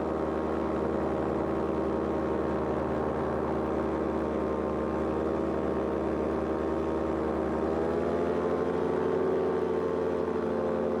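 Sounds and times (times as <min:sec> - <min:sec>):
two-stroke engine and propeller: 0:00.0 - 0:11.0.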